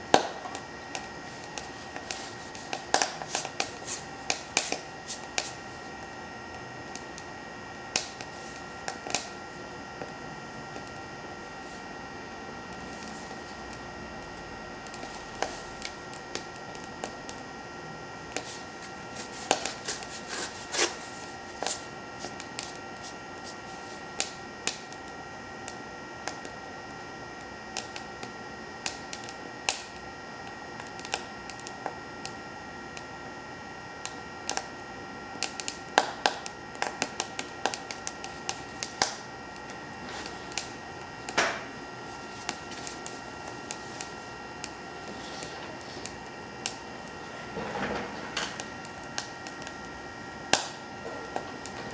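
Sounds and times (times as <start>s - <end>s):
stove fan whine: 0.0s - 51.9s
wood crackling and popping in fire: 0.0s - 51.9s.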